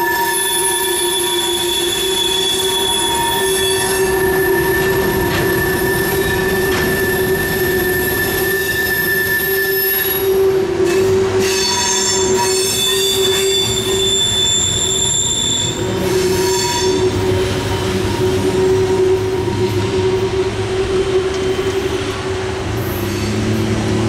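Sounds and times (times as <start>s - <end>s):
train wheels squealing: 0.0s - 23.7s
shriller wheel squeal tones: 0.0s - 24.0s.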